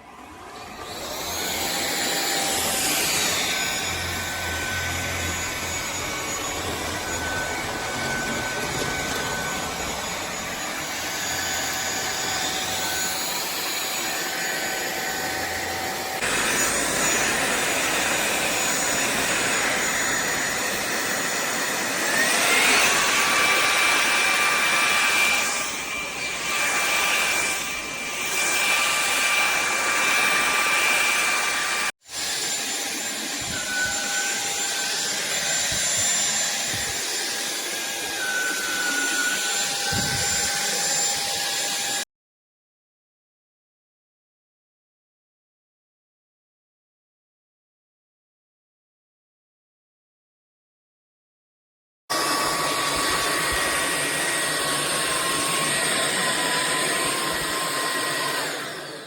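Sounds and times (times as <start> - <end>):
stick vacuum cleaner running: 0.0 - 42.0, 52.1 - 59.0.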